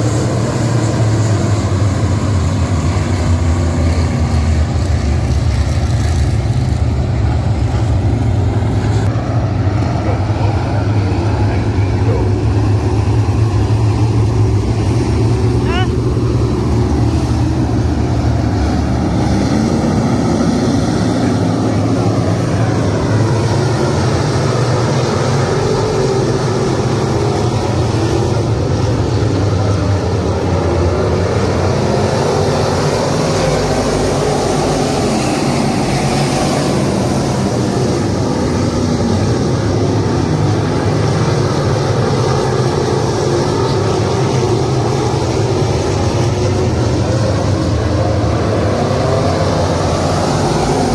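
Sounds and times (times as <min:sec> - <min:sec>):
race car engines accelerating: 0:00.0 - 0:50.9.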